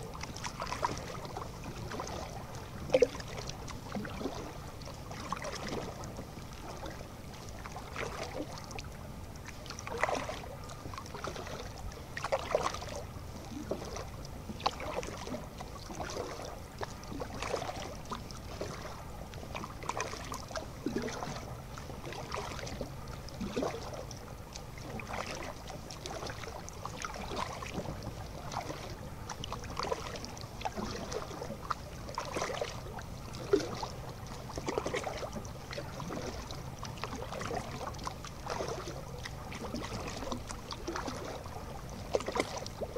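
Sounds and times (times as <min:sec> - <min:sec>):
paddle splashing in water: 0:00.0 - 0:42.9.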